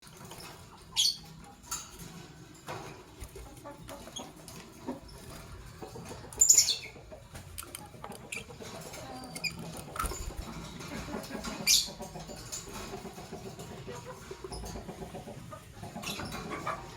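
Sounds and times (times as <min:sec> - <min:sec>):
light clicks and scratches: 0:00.1 - 0:16.9.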